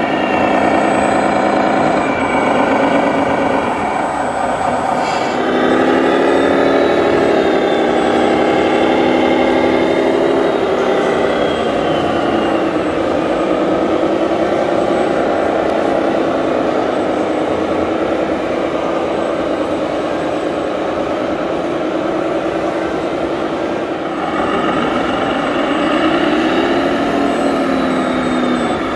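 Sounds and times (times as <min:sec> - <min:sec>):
toy truck engine drone: 0:00.0 - 0:28.9.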